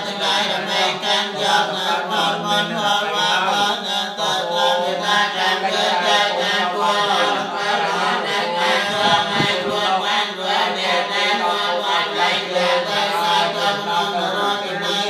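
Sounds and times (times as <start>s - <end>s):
monks chanting together: 0.0s - 15.0s.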